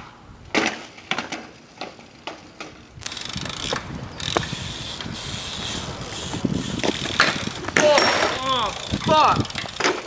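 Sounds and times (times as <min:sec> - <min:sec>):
bike clattering across asphalt: 0:00.5 - 0:10.0
bike rolling over concrete: 0:00.5 - 0:10.0.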